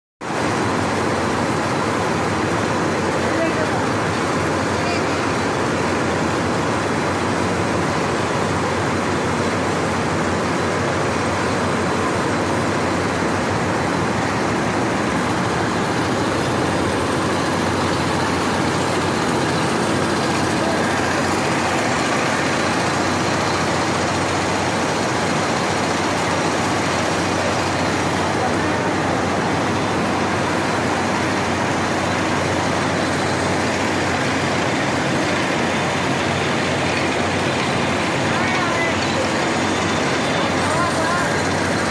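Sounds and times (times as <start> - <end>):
roller gins running: 0.3 - 41.9.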